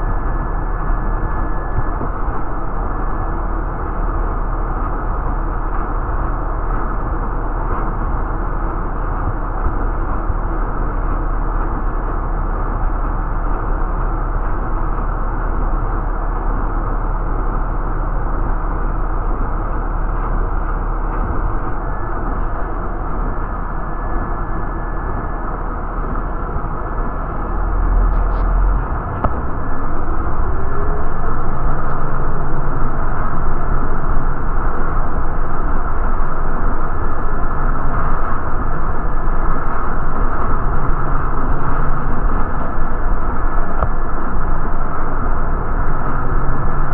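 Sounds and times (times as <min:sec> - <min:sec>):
bus engine and road noise: 0:00.0 - 0:46.9
faint steady whine: 0:00.0 - 0:46.9.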